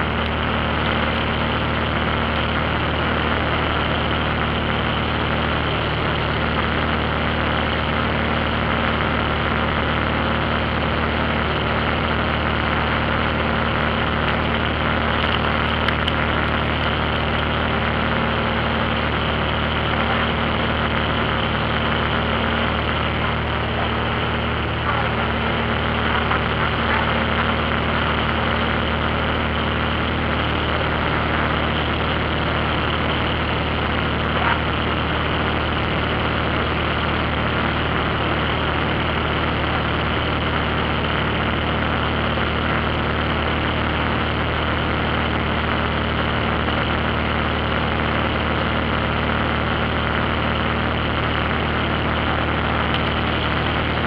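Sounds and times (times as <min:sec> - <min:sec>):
airplane engine drone: 0:00.0 - 0:54.0.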